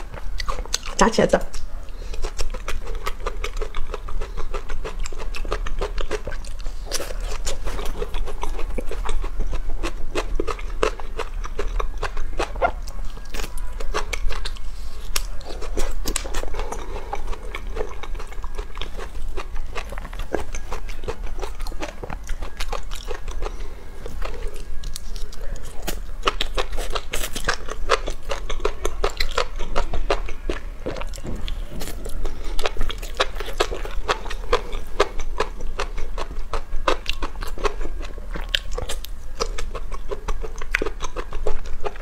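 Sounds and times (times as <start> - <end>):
biting and chewing fried food: 0.0 - 42.0.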